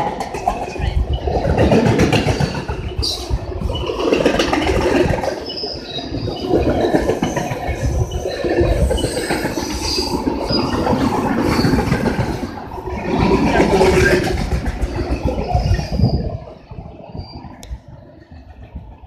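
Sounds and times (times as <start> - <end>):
train wheel squeals: 0.0 - 12.6, 13.2 - 17.6
freight train rumbling on rails: 0.0 - 19.0.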